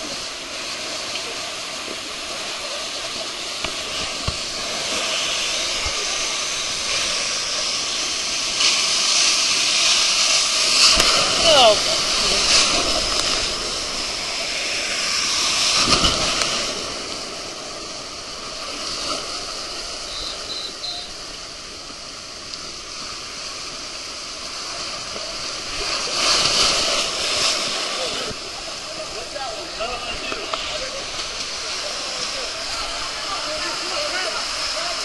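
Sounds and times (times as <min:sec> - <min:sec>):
water rushing down a slide: 0:00.0 - 0:35.0.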